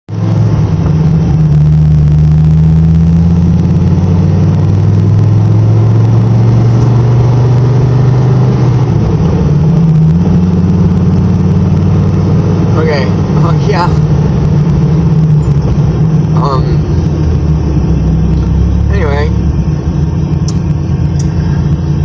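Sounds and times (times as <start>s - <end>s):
car engine cruising drone: 0.1s - 22.0s.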